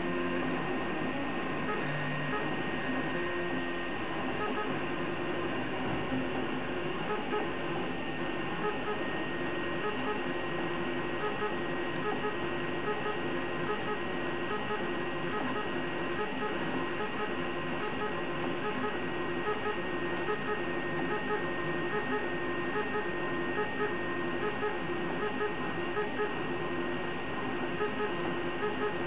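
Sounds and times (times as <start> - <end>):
cooling fans whirring: 0.0 - 29.0.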